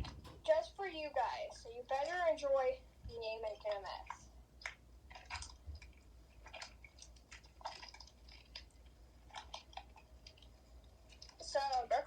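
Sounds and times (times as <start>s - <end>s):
slime squelching by hand: 2.0s - 12.0s.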